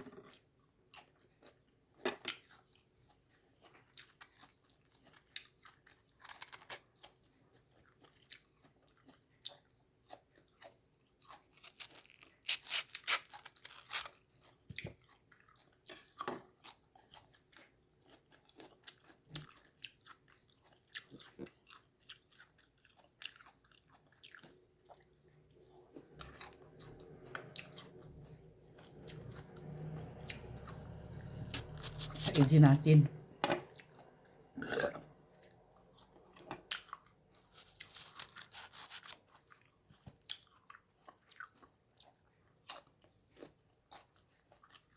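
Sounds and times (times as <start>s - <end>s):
person chewing crunchy fruit: 0.0s - 44.9s.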